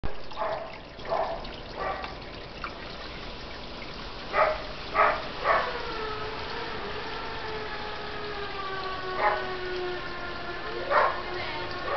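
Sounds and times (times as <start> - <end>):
water trickling in a pond: 0.0 - 11.9.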